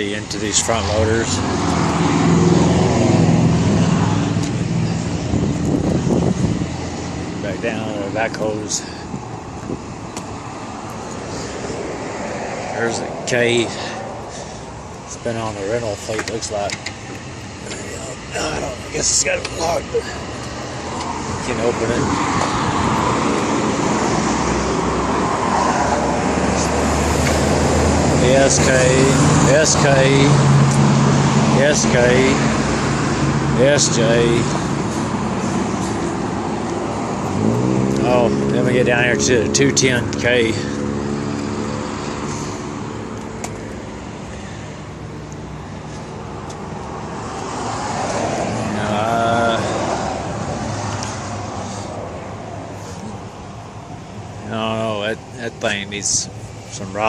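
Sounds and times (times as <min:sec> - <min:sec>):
passing traffic rush: 0:00.0 - 0:57.0.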